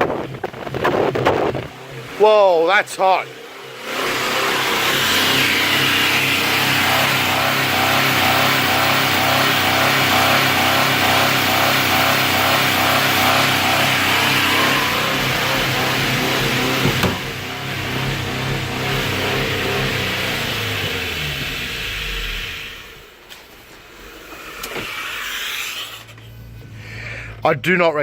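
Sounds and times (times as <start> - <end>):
car engine at high revs: 0.0 - 25.1.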